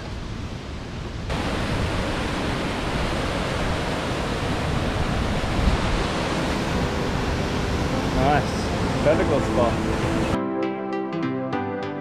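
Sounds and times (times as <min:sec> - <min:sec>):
waterfall rushing over boulders: 0:00.0 - 0:10.4.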